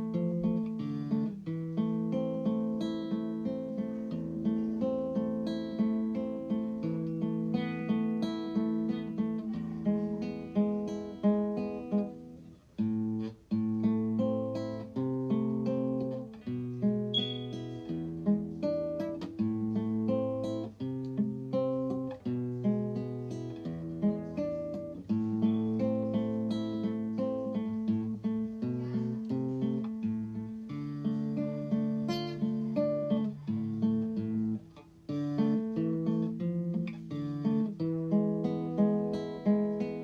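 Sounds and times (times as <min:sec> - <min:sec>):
acoustic guitar plucking: 0:00.0 - 0:40.0.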